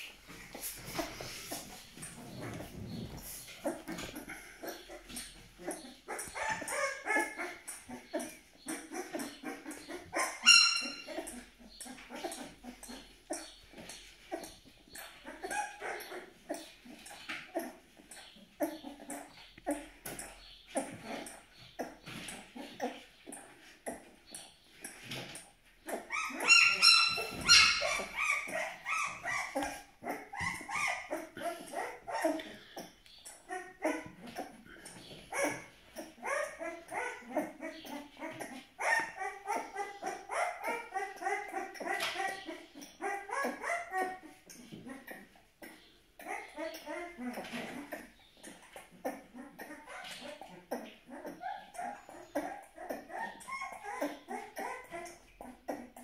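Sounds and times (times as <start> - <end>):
puppy whimpering: 0.3 - 56.0.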